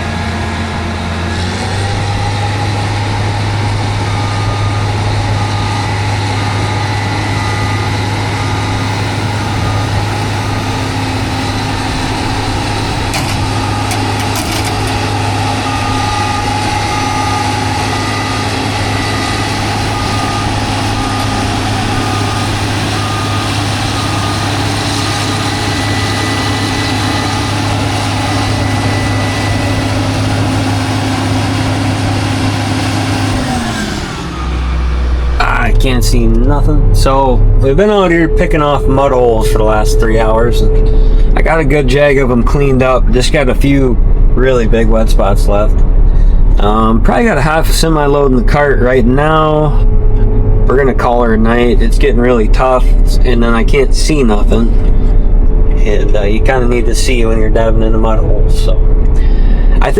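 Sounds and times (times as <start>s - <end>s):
alarm beeping: 0.0s - 59.9s
combine harvester engine drone: 0.0s - 59.9s.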